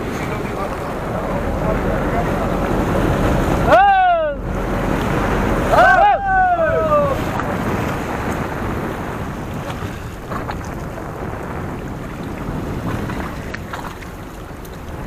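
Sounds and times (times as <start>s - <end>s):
sea: 0.0s - 15.0s
wind: 0.0s - 15.0s.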